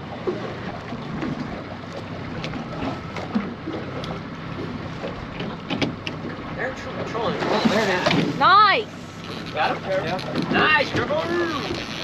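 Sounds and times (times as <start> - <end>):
outboard motor running: 0.0 - 12.0
water washing against hull: 0.0 - 12.0.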